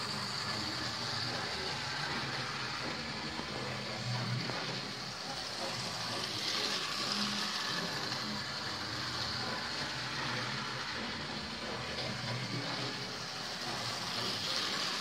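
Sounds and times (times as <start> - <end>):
model train motors running: 0.0 - 15.0.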